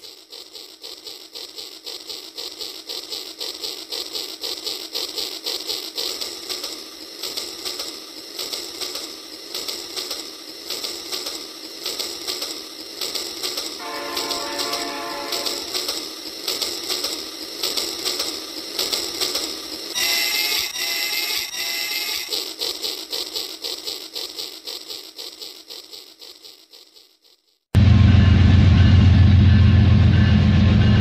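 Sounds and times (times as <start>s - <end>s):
toy train clicking along track: 0.0s - 27.7s.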